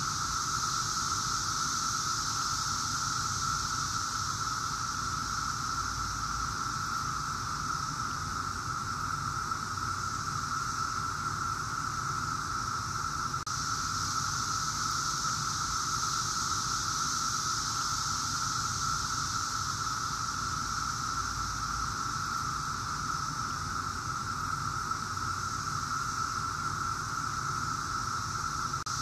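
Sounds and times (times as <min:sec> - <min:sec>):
cicadas droning chorus: 0:00.0 - 0:29.0.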